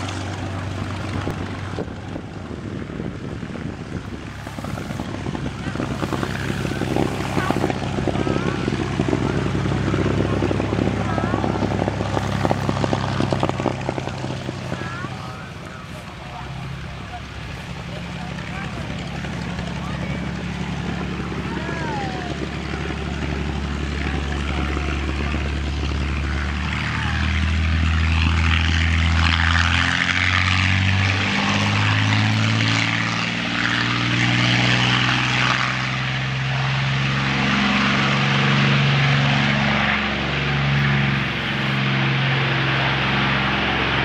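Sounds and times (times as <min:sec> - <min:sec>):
propeller plane engine at high power: 0:00.0 - 0:44.0.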